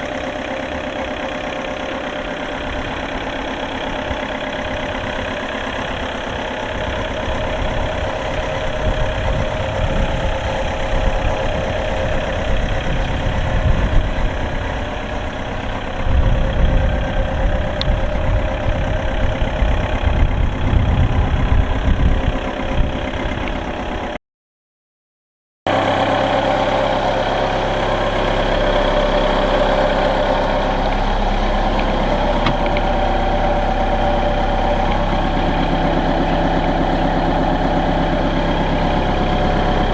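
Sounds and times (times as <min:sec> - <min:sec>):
forklift diesel engine running: 0:00.0 - 0:24.2, 0:25.7 - 0:39.9.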